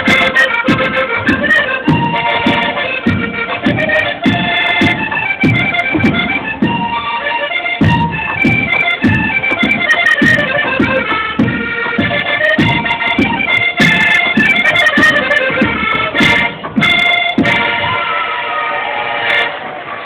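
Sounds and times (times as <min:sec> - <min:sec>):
steady drum beat: 0:00.0 - 0:07.0, 0:07.7 - 0:18.0
accordion melody: 0:00.0 - 0:20.0.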